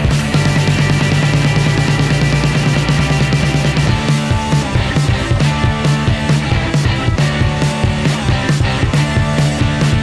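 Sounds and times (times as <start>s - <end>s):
drum beat: 0.0s - 10.0s
heavy bass line: 0.0s - 10.0s
rock music: 0.0s - 10.0s.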